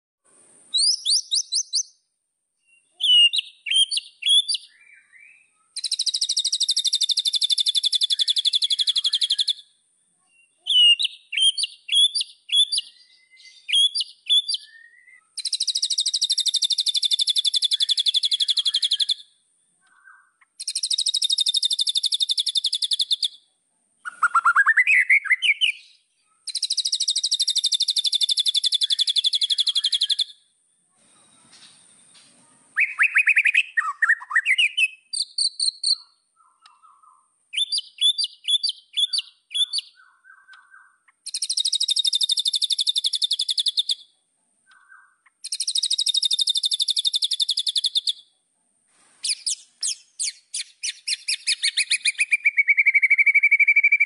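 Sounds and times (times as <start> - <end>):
bird whistling and trilling: 0.7 - 2.0, 2.6 - 9.6, 10.3 - 19.3, 19.9 - 23.4, 24.0 - 30.4, 32.8 - 44.0, 44.8 - 48.2, 49.2 - 54.0.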